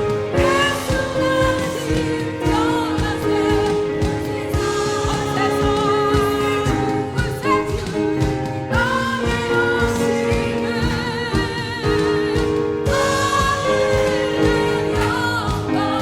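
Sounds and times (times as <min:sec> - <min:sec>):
vocal ensemble singing a carol: 0:00.0 - 0:16.0.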